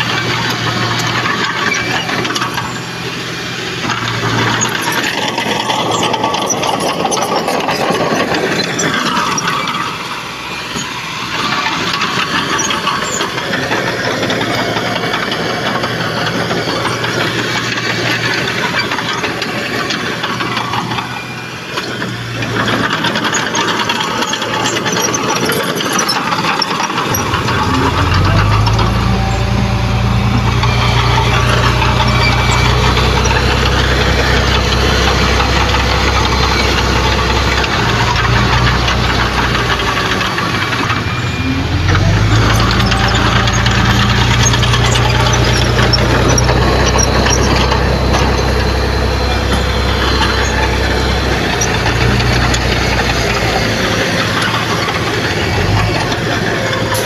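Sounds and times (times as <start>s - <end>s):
deep steady engine drone: 0.0s - 57.0s
diesel machinery clatter: 0.0s - 57.0s.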